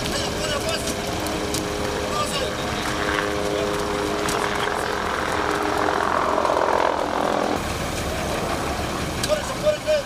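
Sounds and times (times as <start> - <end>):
rush of noise: 0.0 - 10.0.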